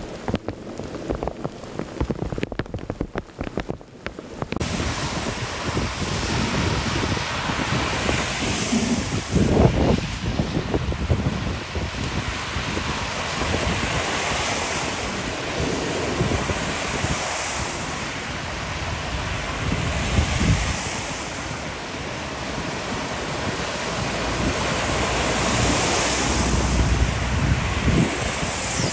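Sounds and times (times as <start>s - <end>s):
heavy rain: 0.0s - 28.9s
strong wind: 0.0s - 28.9s
wind buffeting microphone: 0.0s - 28.9s.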